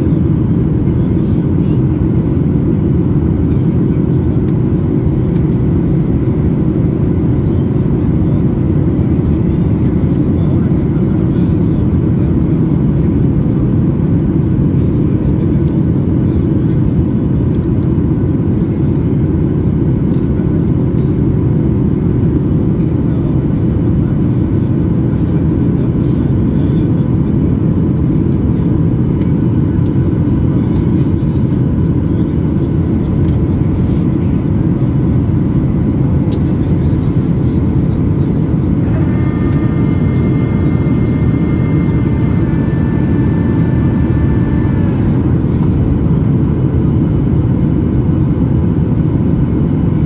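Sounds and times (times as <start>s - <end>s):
aircraft cabin engine roar: 0.0s - 50.0s.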